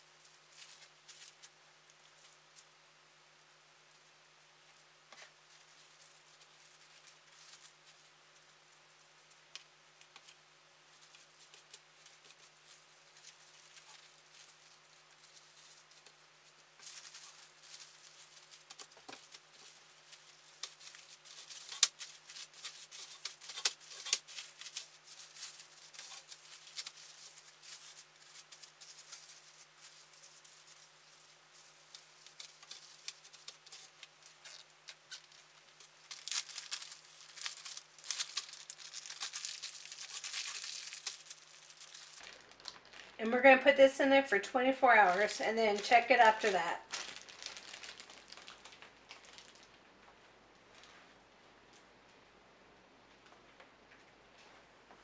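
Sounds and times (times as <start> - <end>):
plastic wrapping crinkling: 0.1 - 2.8, 3.4 - 43.7, 44.8 - 51.1.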